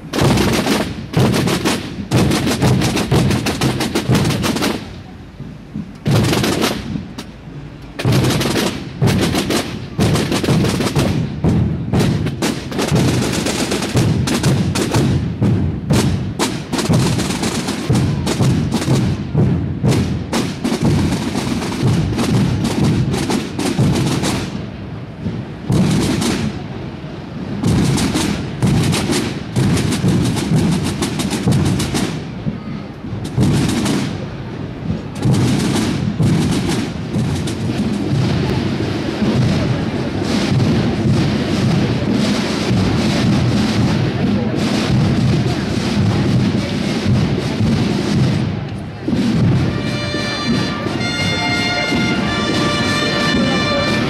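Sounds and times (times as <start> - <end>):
drums beating marching rhythm: 0.0 - 54.0.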